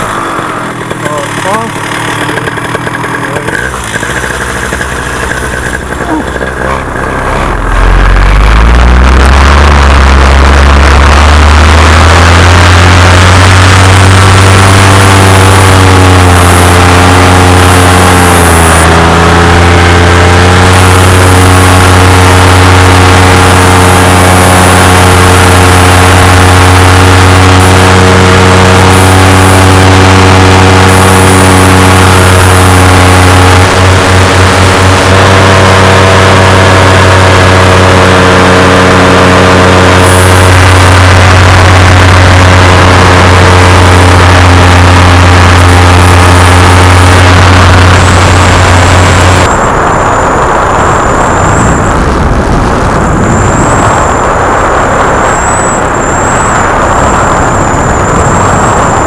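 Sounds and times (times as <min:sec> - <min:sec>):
paramotor engine and propeller: 0:00.0 - 0:59.0
rough rush of noise: 0:00.0 - 0:59.0.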